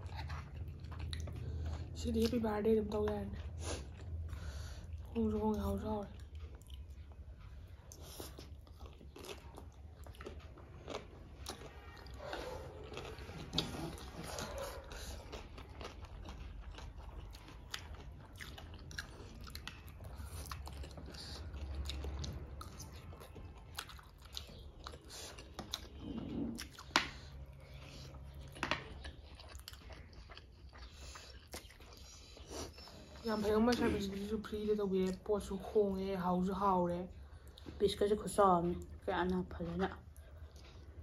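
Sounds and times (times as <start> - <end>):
chewing and biting food: 0.0 - 41.0.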